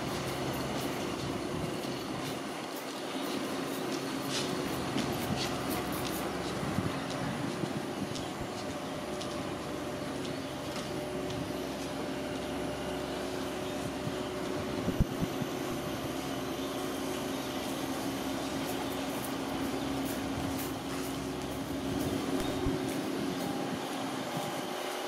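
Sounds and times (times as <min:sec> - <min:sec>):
urban mechanical hum: 0:00.0 - 0:25.0.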